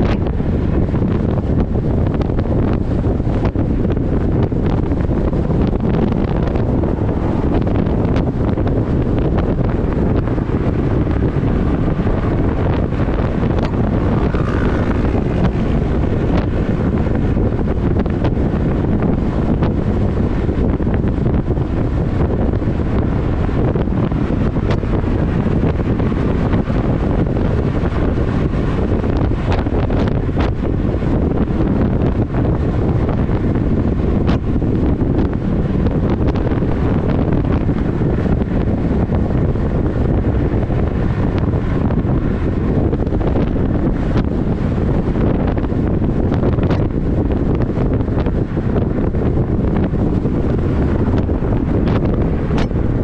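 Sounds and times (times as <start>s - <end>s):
car road noise: 0.0s - 53.0s
wind rushing over microphone: 0.0s - 53.0s.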